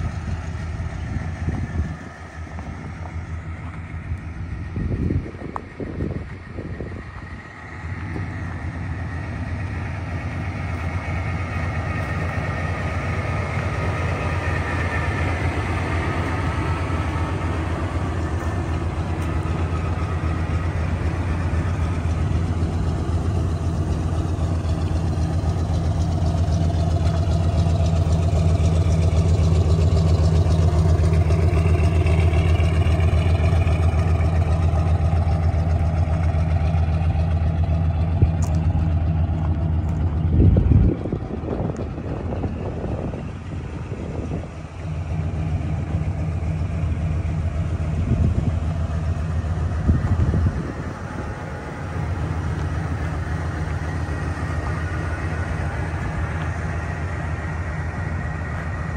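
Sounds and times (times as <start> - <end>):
pickup engine idling: 0.0 - 58.9.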